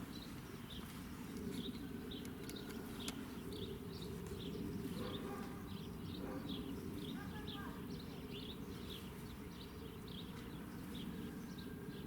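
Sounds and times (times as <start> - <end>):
low outdoor hum: 0.0 - 12.0.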